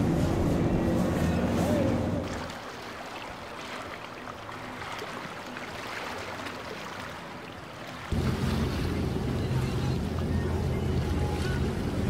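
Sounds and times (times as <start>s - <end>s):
boat engines rumbling: 0.0s - 12.0s
waves and rushing water: 0.0s - 12.0s.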